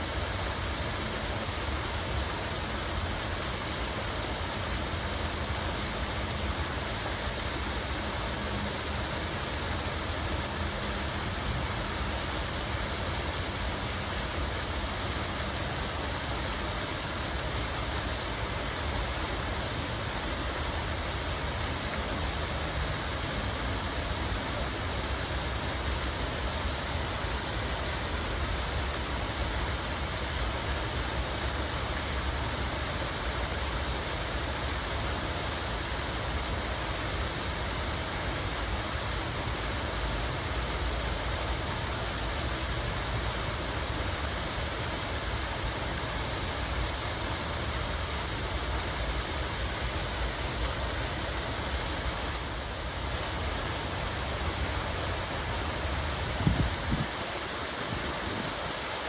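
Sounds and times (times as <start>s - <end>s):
water flowing and splashing: 0.0s - 59.0s.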